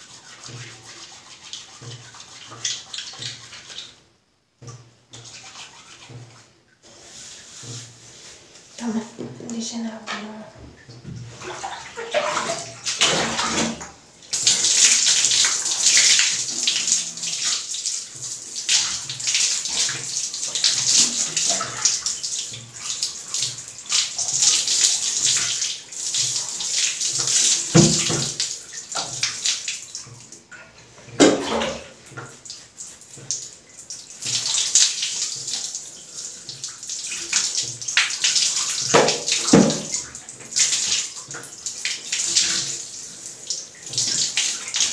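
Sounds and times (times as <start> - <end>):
water pouring and splashing into basin: 0.0 - 44.9.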